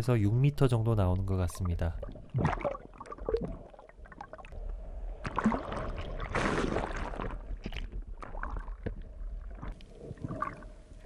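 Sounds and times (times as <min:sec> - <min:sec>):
underwater rushing and bubbling: 0:01.2 - 0:11.0.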